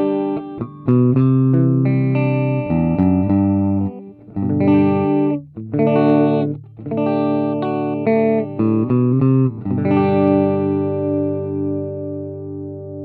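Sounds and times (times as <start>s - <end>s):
clean electric guitar chords: 0.0s - 13.0s.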